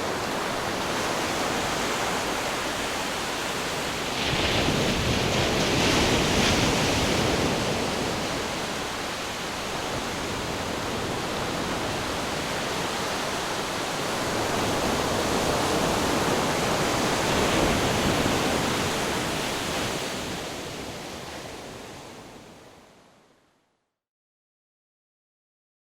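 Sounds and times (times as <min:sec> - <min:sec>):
ocean waves breaking on shore: 0:00.0 - 0:23.2.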